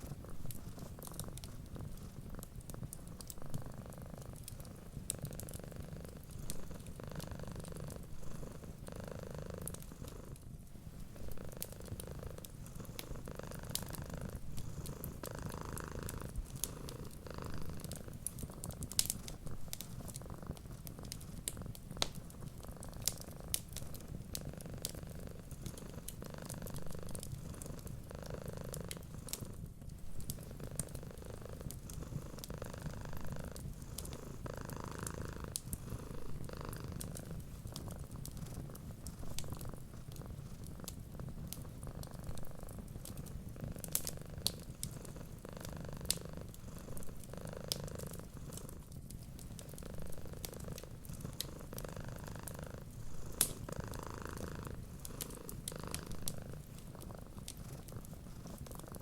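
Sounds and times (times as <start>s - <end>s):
wood fire crackling and popping: 0.0s - 8.8s, 9.5s - 59.0s
cat purring: 0.0s - 59.0s.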